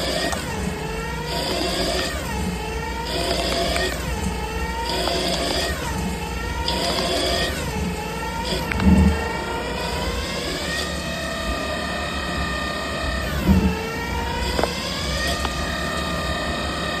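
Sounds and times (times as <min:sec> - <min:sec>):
lathe spindle whining: 0:00.0 - 0:17.0.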